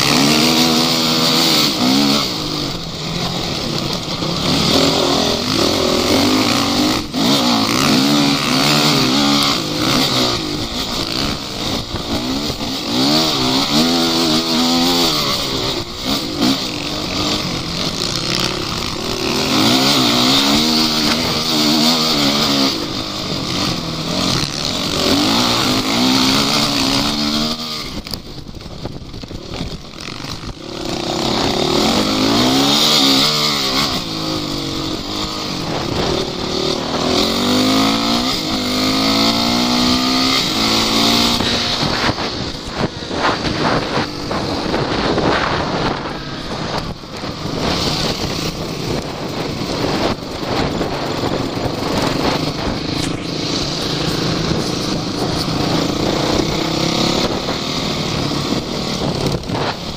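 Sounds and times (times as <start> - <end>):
off-road vehicle engines revving: 0.0 - 59.9.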